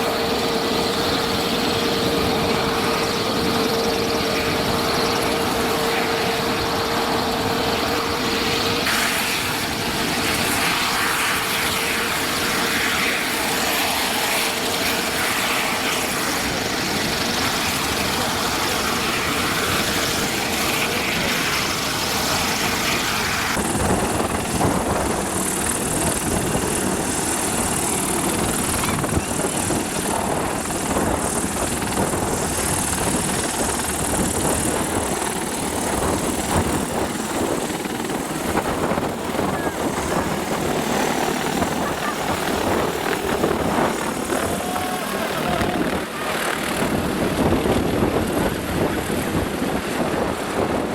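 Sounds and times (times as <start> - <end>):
helicopter rotor and turbine: 0.0 - 50.9.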